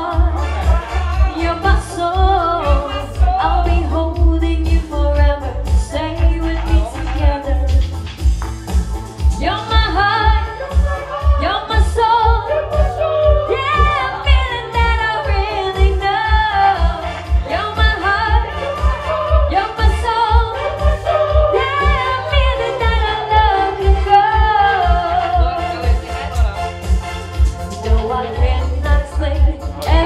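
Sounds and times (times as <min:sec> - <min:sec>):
woman singing into a microphone: 0:00.0 - 0:07.9, 0:09.3 - 0:26.0, 0:27.8 - 0:30.0
keyboard with bass beat: 0:00.0 - 0:30.0.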